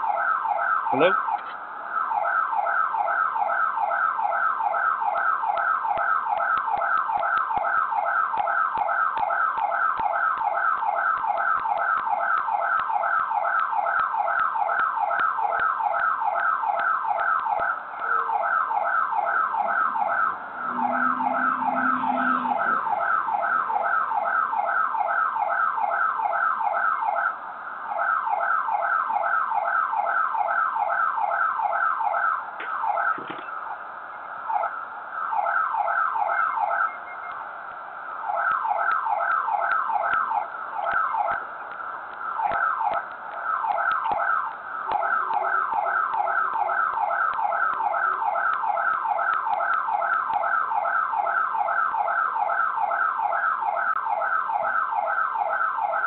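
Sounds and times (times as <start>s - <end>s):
electronic alarm siren: 0.0s - 56.0s.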